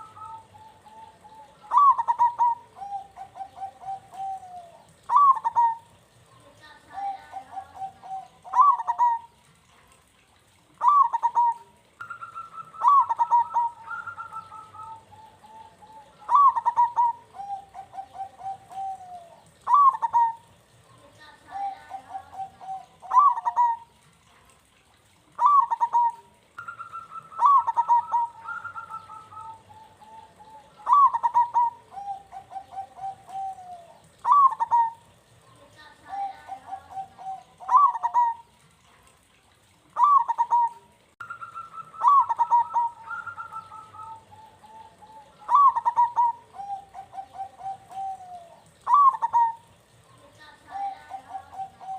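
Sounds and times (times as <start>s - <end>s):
second dove cooing: 0.0s - 9.5s, 10.8s - 20.6s, 21.5s - 24.0s, 25.4s - 38.6s, 40.0s - 51.9s
dove cooing: 0.0s - 24.4s, 25.0s - 38.9s, 39.8s - 51.9s.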